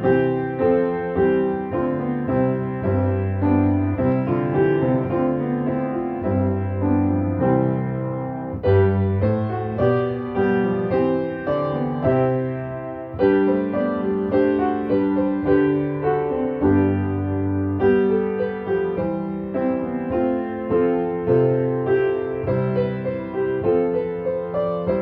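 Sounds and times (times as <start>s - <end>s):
slow gentle piano music: 0.0s - 25.0s.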